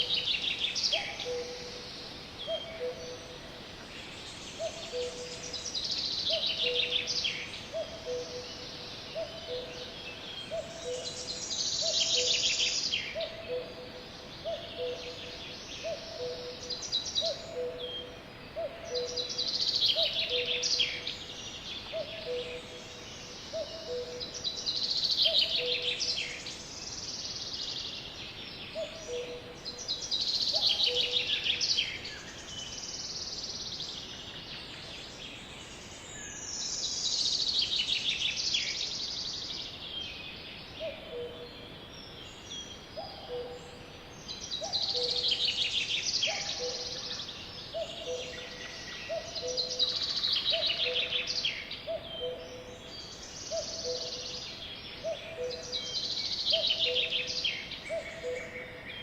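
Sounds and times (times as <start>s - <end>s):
songbirds singing trills: 0.0s - 59.0s.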